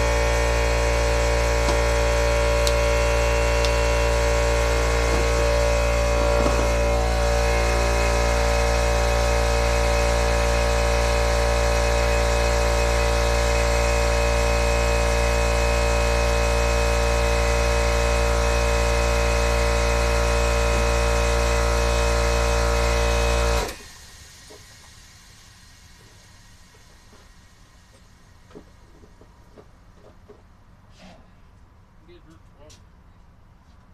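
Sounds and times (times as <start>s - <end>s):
air compressor running: 0.0s - 31.3s.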